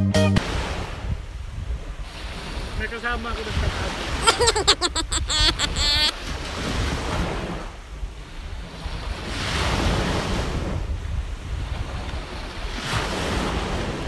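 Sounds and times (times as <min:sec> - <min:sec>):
waves on rocky shore: 0:00.4 - 0:14.0
wind on microphone: 0:00.4 - 0:14.0.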